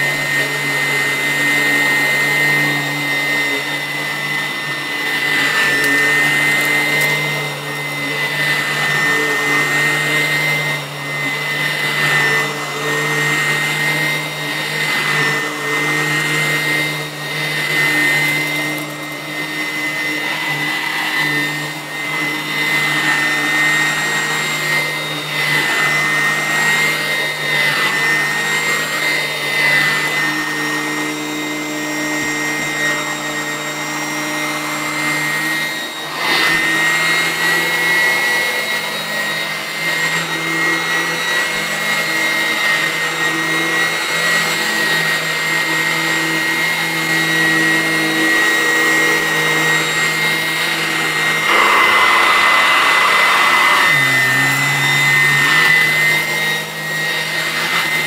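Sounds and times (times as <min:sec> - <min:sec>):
upright vacuum cleaner on carpet: 0:00.0 - 0:58.0.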